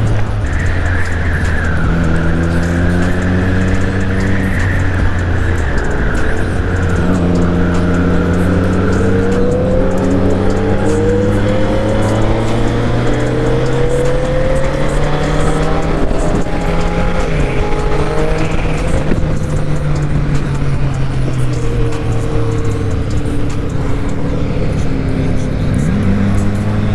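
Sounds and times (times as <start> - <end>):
motorcycle engine accelerating: 0.0 - 26.9
wind rushing: 0.0 - 26.9.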